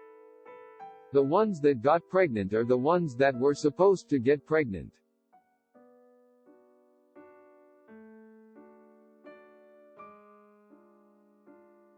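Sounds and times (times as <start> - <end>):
soft piano chords: 0.0 - 11.9.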